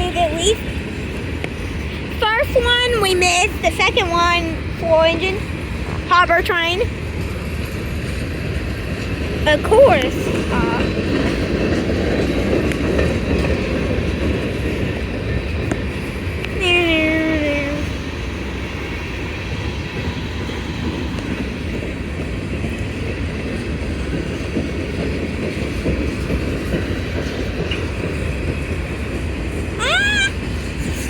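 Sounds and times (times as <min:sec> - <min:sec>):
wheels clacking over rail joints: 0:00.0 - 0:16.6, 0:20.7 - 0:29.8
freight train rumbling past: 0:00.0 - 0:31.0.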